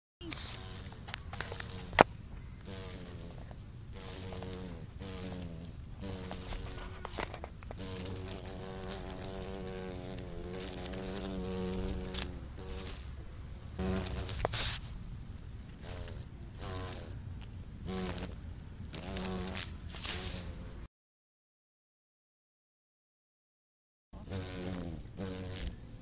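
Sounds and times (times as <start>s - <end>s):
insect wings buzzing: 0.2s - 20.9s, 24.2s - 26.0s.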